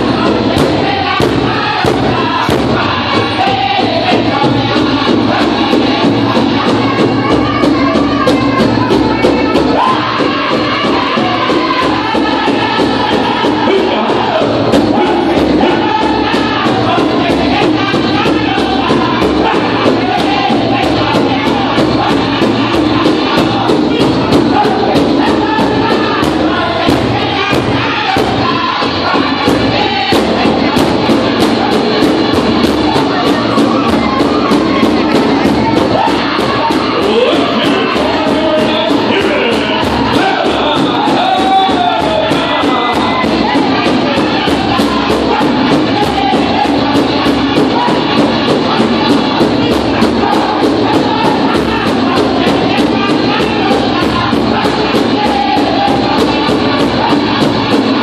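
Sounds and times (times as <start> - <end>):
drum group singing: 0.0 - 58.0
fast big drum beat: 0.0 - 58.0.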